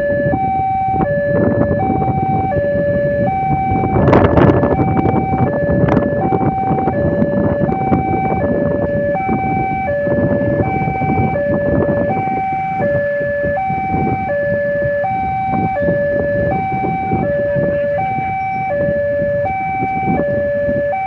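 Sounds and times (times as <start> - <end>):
level crossing two-tone alarm: 0.0 - 21.0
road traffic noise: 0.0 - 21.0.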